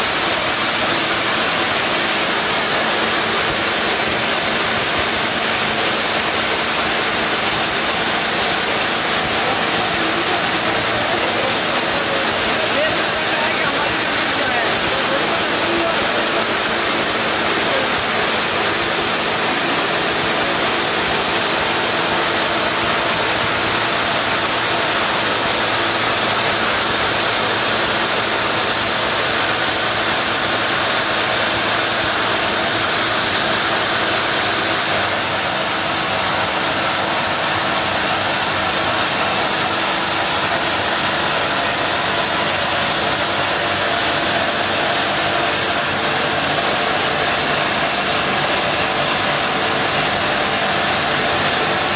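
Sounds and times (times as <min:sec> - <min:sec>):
hydraulic drilling machine: 0:00.0 - 0:51.9.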